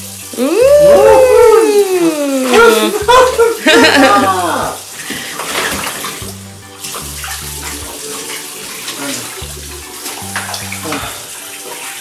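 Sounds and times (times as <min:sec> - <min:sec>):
background music with bass line: 0:00.0 - 0:04.9, 0:05.7 - 0:11.3
water splashing from a tap: 0:00.0 - 0:12.0.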